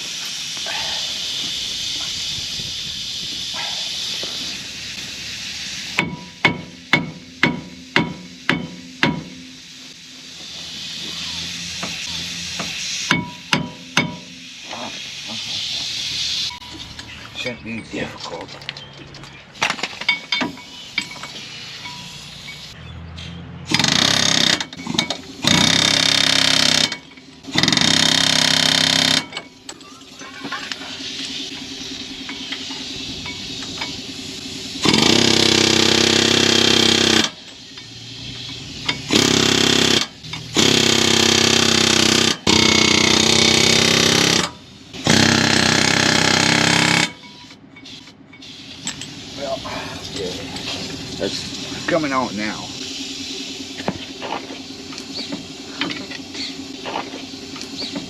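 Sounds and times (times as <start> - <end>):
air-powered tool hammering: 0.0 - 16.8, 19.6 - 22.8, 23.7 - 29.8, 30.4 - 49.3, 50.1 - 58.0.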